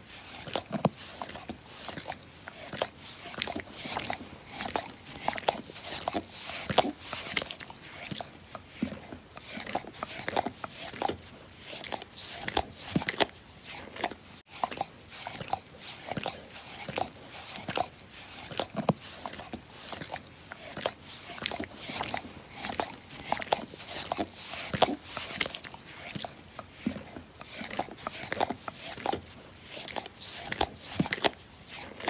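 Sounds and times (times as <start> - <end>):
dog licking: 0.4 - 32.0.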